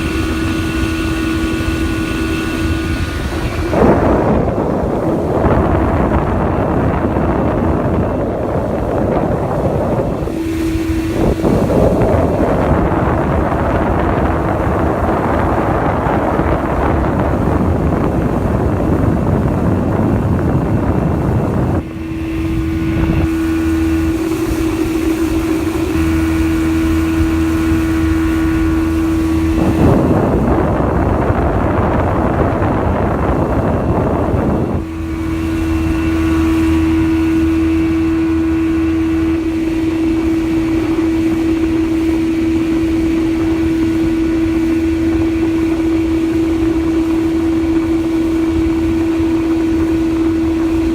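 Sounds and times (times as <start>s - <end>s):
outboard engine running: 0.0s - 50.9s
wind buffeting on microphone: 0.0s - 50.9s.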